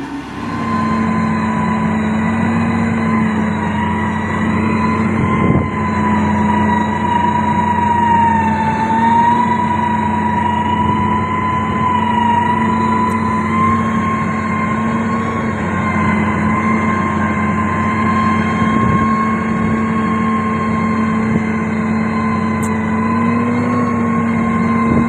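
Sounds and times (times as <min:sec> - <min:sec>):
diesel engine running: 0:00.0 - 0:25.0
high wavering whine: 0:00.0 - 0:25.0.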